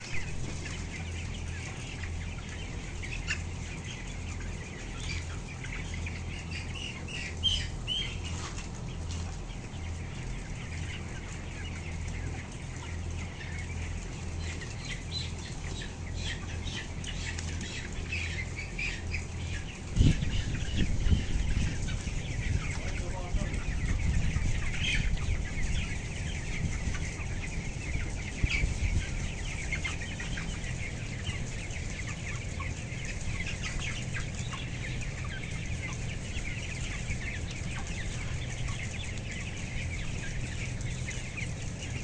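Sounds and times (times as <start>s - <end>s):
chickens peeping and clucking: 0.0s - 42.0s
steady low hum: 0.0s - 42.0s.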